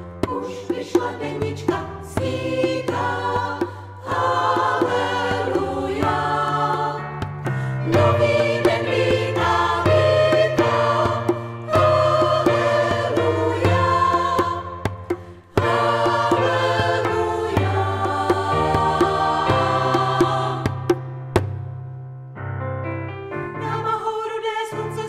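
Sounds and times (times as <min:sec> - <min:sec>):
women's choir singing in harmony: 0:00.0 - 0:21.0, 0:23.6 - 0:25.0.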